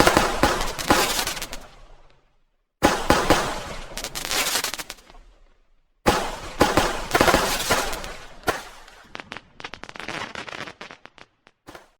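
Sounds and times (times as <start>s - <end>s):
firecrackers crackling and popping: 0.0s - 2.1s, 3.0s - 5.3s, 6.1s - 11.9s.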